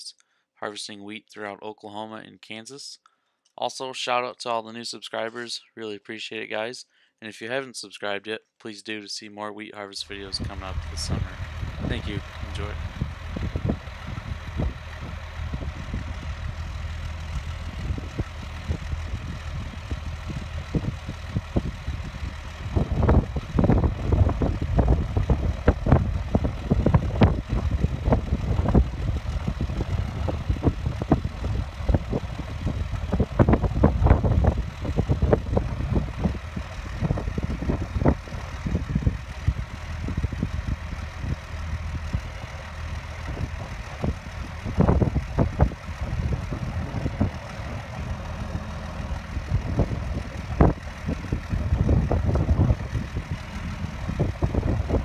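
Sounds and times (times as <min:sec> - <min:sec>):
combine harvester rumble: 0:10.0 - 0:55.0.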